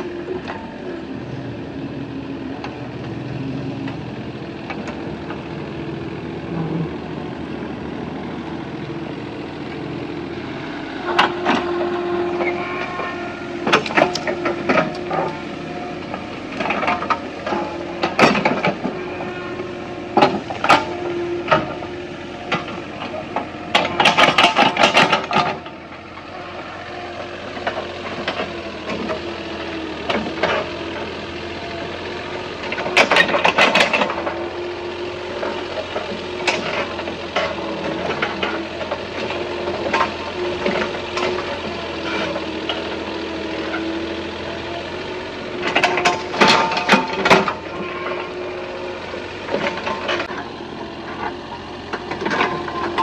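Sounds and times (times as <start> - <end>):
excavator engine running: 0.0 - 53.0.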